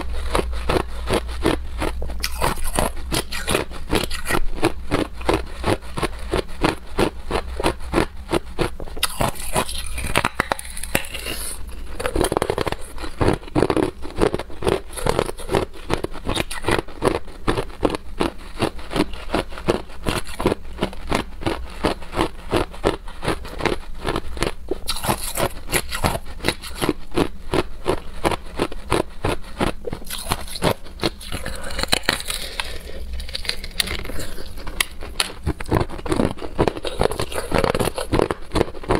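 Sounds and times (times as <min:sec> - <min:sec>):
ice crunching between teeth: 0:00.0 - 0:38.9.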